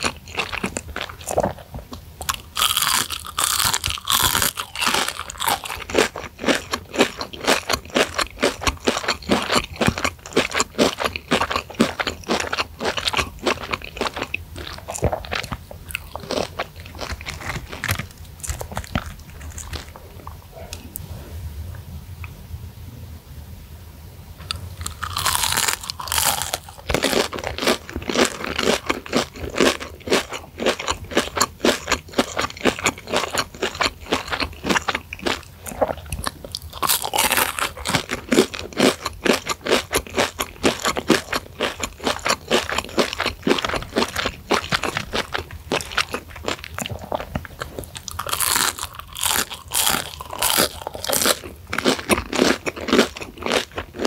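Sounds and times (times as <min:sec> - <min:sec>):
chewing crunchy fried chicken: 0:00.0 - 0:21.0, 0:24.4 - 0:54.0.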